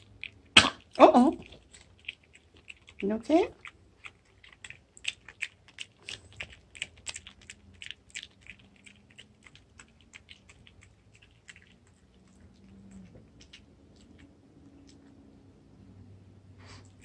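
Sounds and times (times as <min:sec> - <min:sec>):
dog crunching broccoli: 0:00.0 - 0:15.3.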